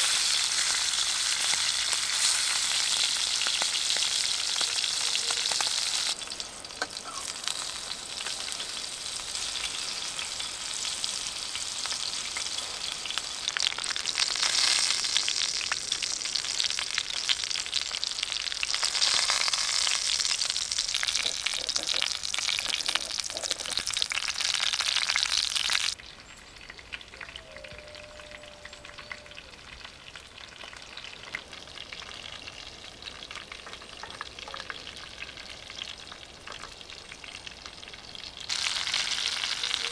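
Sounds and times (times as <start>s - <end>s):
food sizzling in a pan: 0.0s - 26.3s, 27.4s - 39.9s.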